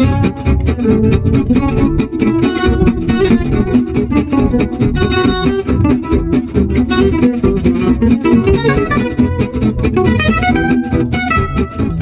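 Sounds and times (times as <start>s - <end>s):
guitar plucked and strummed: 0.0s - 12.0s.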